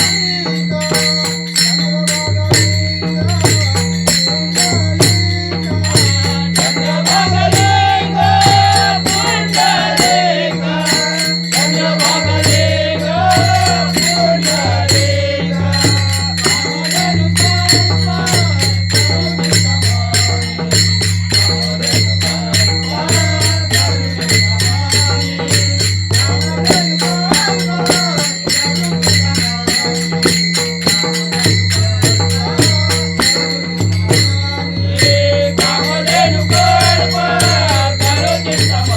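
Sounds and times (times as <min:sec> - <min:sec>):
hand cymbals striking a fast beat: 0:00.0 - 0:38.9.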